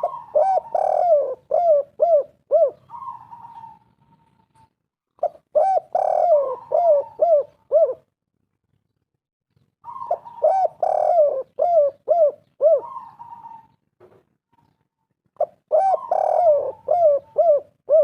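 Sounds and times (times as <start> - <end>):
dove cooing: 0.0 - 8.1, 9.8 - 13.8, 15.4 - 18.0.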